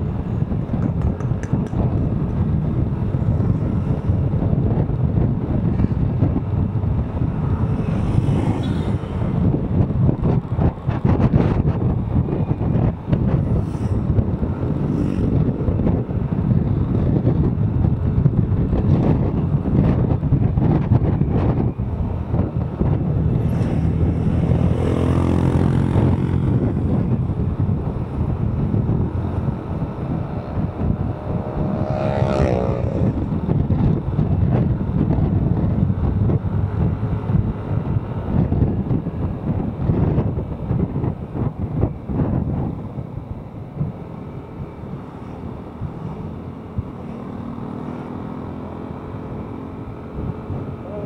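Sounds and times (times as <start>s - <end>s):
road and wind noise: 0.0s - 51.0s
motorcycle engine accelerating: 0.4s - 51.0s.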